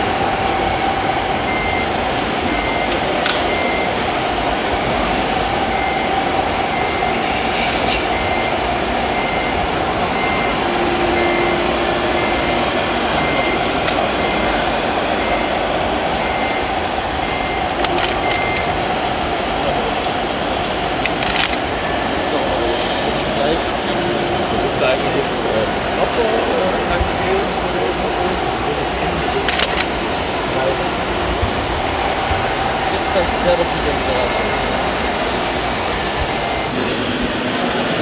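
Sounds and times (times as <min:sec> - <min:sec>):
reversing alarm beeps: 0:00.0 - 0:28.7, 0:32.0 - 0:38.0
background din: 0:00.0 - 0:38.0
steady hum: 0:00.0 - 0:38.0.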